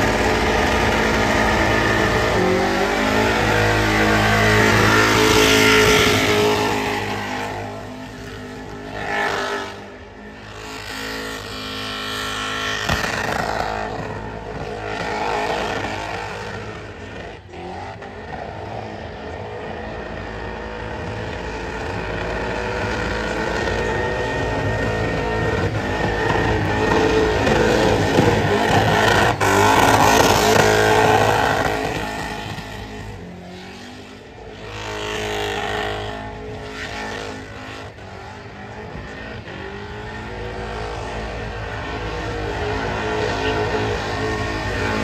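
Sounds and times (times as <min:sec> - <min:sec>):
car engine revving hard: 0:00.0 - 0:45.0.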